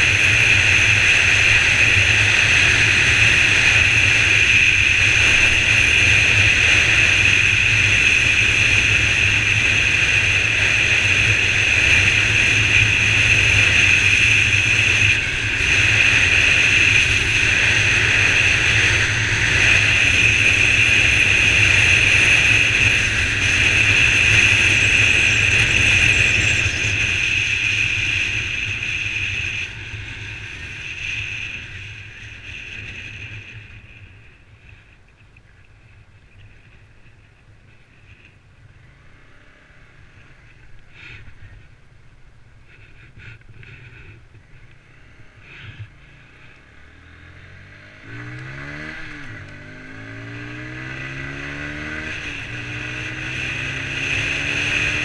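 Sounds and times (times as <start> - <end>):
motorcycle engine drone: 0.0 - 55.0
wind and road noise: 0.0 - 55.0.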